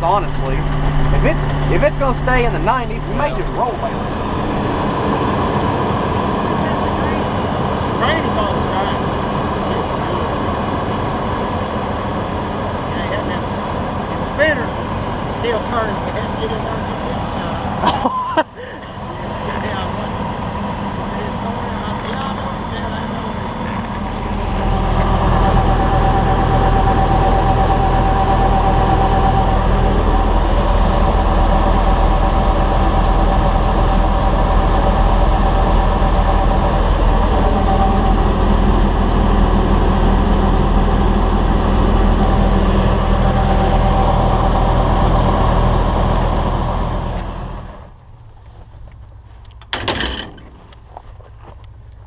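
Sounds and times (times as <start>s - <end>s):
tractor engine running: 0.0s - 18.1s, 18.7s - 52.0s
engine whine: 0.0s - 52.0s.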